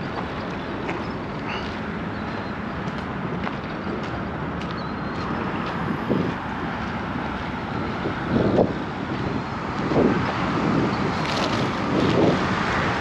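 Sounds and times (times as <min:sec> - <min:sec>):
low urban rumble: 0:00.0 - 0:13.0.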